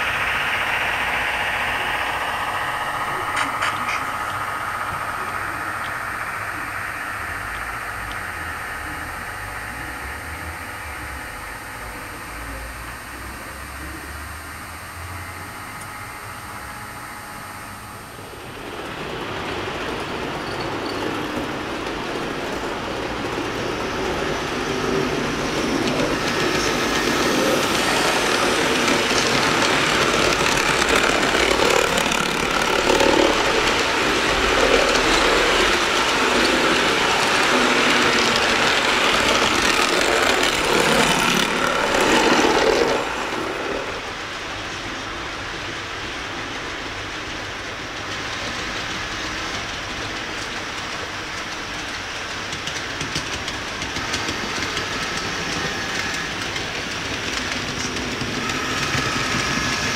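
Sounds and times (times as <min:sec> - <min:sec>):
model train wheels clattering on rail: 0:00.0 - 0:08.8, 0:18.9 - 0:59.9.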